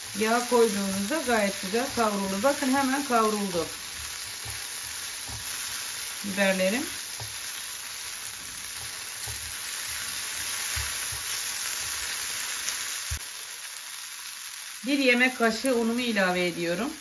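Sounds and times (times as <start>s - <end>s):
peppers sizzling in oil: 0.0s - 17.0s.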